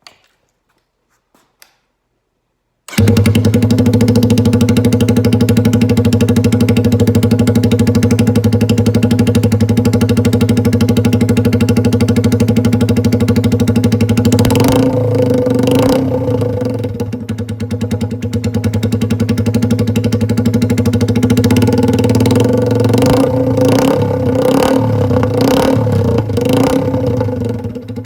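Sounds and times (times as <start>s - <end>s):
motorcycle engine idling: 2.9s - 28.0s.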